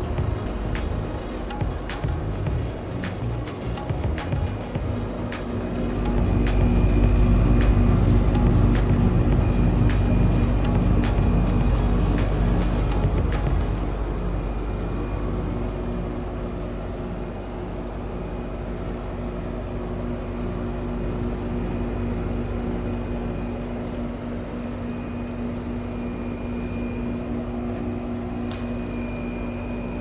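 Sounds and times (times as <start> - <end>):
fan rushing air: 0.0 - 29.9
compressor low hum: 0.0 - 30.0.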